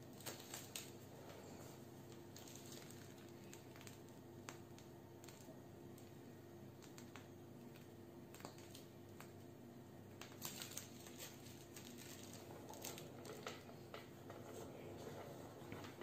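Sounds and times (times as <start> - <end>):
faint steady hum: 0.0 - 16.0
plastic piping bag crinkling: 0.0 - 16.0.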